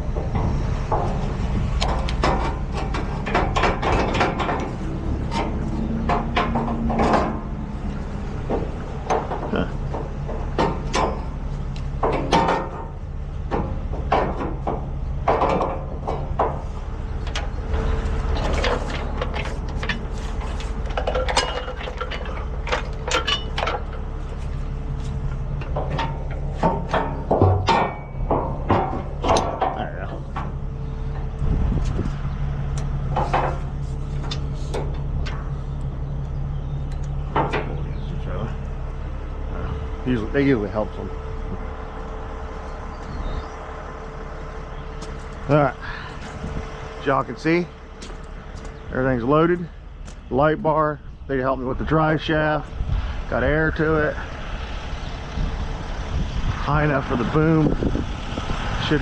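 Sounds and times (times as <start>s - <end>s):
metal clanks and rattles: 0.0s - 59.0s
truck engine idling: 0.0s - 59.0s.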